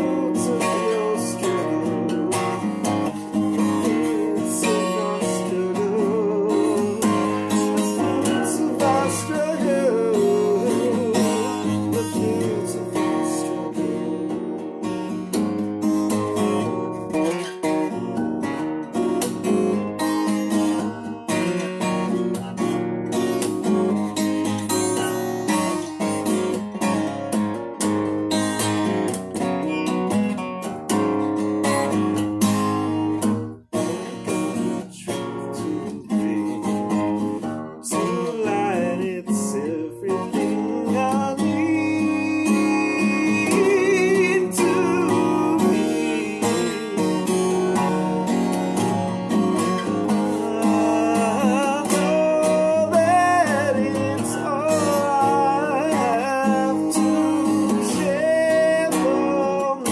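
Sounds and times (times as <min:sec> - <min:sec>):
man singing: 0:00.0 - 0:18.0, 0:19.3 - 0:27.0, 0:32.6 - 0:59.9
acoustic guitar strumming chords: 0:00.0 - 0:59.9.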